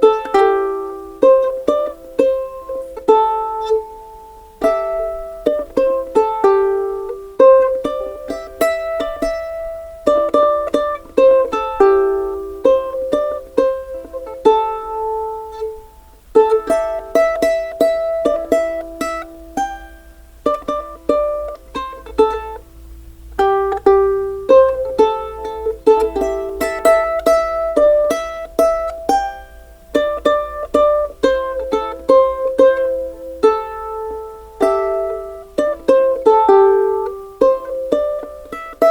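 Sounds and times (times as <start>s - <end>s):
plucked string melody: 0.0s - 38.9s.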